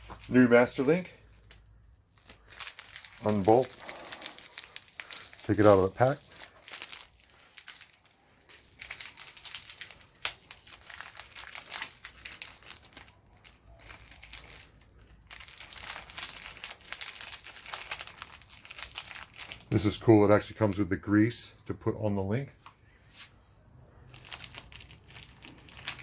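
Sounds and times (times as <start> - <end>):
plastic packaging crinkling: 0.0 - 20.8, 24.0 - 26.0.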